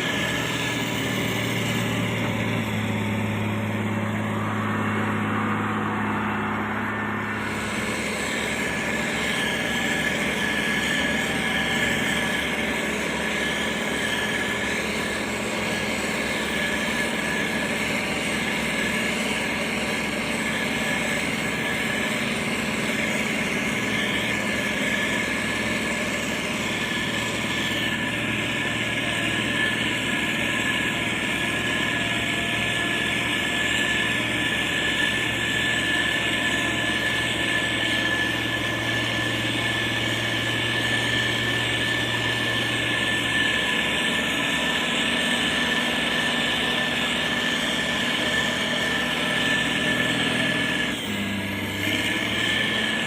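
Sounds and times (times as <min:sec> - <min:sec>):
diesel engine running: 0:00.0 - 0:53.0
high whine: 0:00.0 - 0:53.0.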